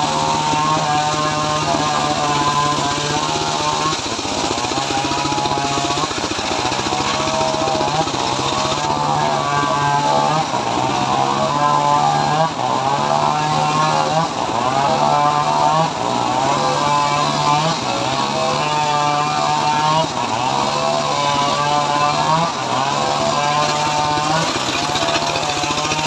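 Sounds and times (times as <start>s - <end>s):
sawmill sawing log: 0.0s - 26.0s.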